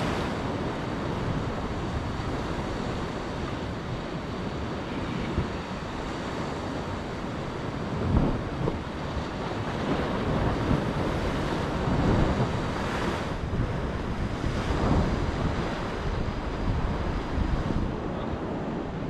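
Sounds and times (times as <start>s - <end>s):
waves breaking on rocky shore: 0.0s - 19.0s
wind buffeting microphone: 0.0s - 19.0s.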